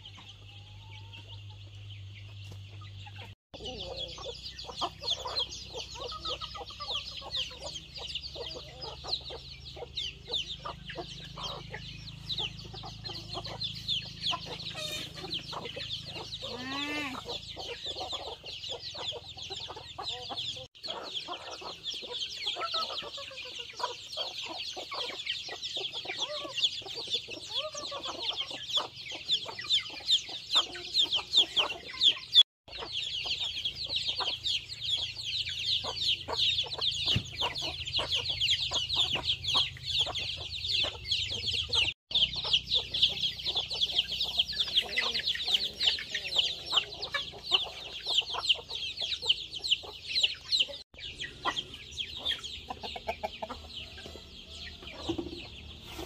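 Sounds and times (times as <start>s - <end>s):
chicks peeping: 0.0s - 56.0s
hens clucking: 0.0s - 56.0s.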